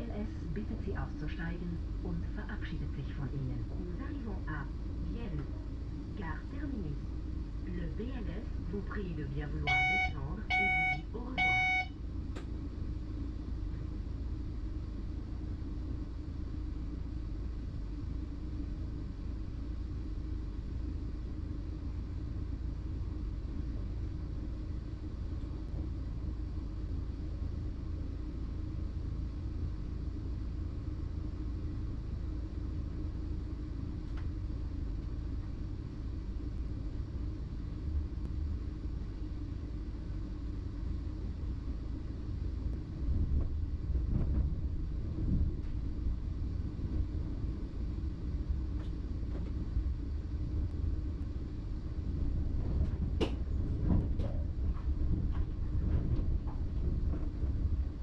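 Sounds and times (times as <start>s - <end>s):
train cab low rumble: 0.0s - 58.0s.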